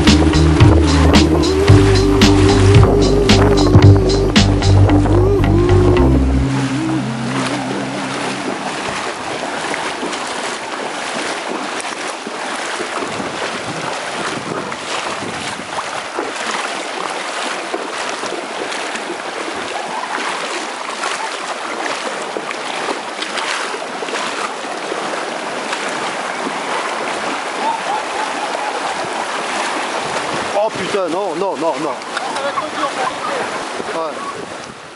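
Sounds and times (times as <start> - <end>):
horses splashing through water: 0.0 - 34.9.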